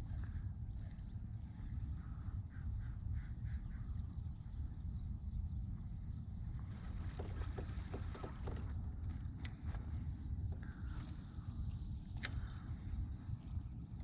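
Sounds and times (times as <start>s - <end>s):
birds chirping: 0.0s - 14.0s
low rumble: 0.0s - 14.0s.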